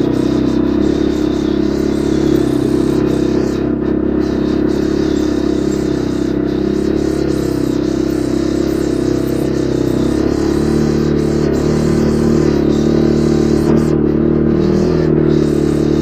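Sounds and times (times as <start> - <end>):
quad bike engine droning: 0.0 - 16.0.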